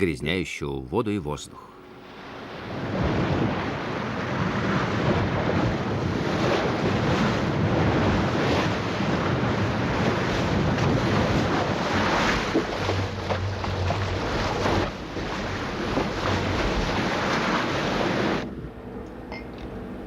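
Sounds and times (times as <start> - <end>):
rushing seawater: 0.0 - 18.6
strong wind buffeting microphone: 2.1 - 18.9.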